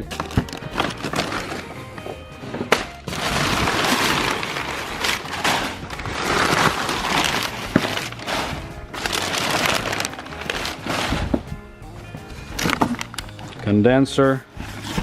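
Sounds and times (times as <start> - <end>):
packaging crinkling and rustling: 0.0 - 11.5, 12.3 - 13.7.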